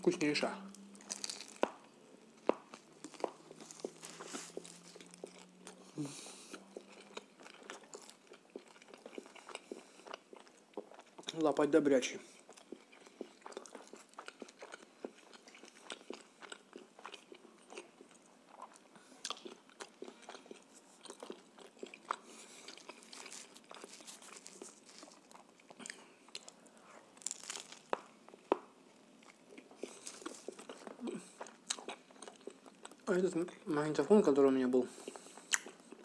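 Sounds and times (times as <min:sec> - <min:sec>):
person chewing food: 0:00.7 - 0:11.4, 0:12.2 - 0:33.1, 0:34.9 - 0:36.0.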